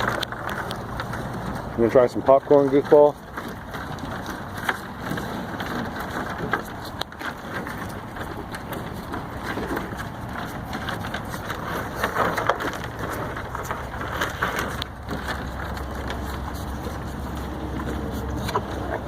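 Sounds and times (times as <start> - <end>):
cows crunching and chewing: 0.0 - 19.0.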